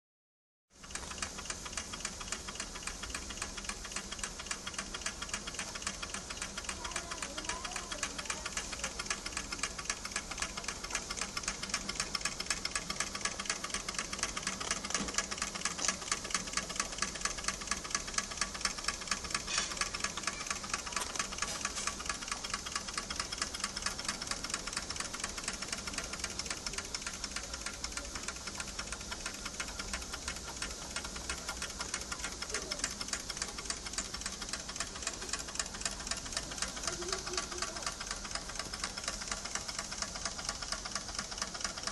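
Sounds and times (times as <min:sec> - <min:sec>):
toy steam engine chuffing: 0:00.7 - 0:41.9.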